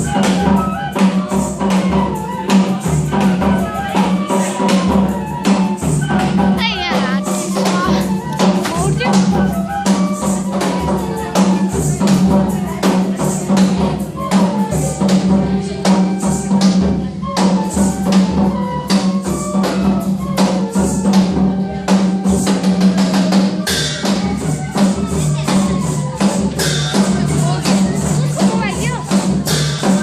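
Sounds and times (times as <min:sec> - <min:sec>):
jingling percussion: 0:00.0 - 0:16.9, 0:22.2 - 0:30.0
folk melody: 0:00.0 - 0:30.0
hand drum rhythm: 0:00.0 - 0:30.0.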